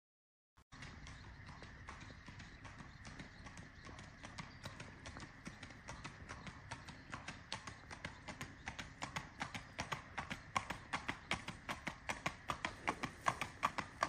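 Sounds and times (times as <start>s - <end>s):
horse hooves clip-clopping: 0.7s - 14.0s.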